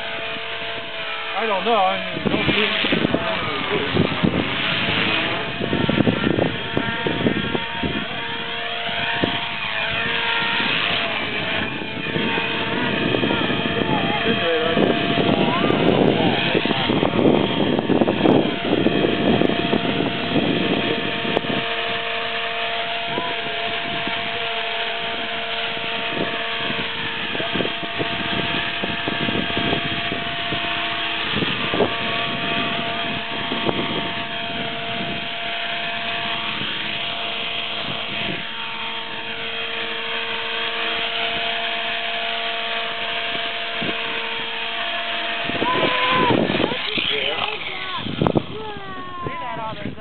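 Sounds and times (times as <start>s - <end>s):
rc helicopter rotor whine: 0.0s - 50.0s
wind buffeting microphone: 0.0s - 50.0s.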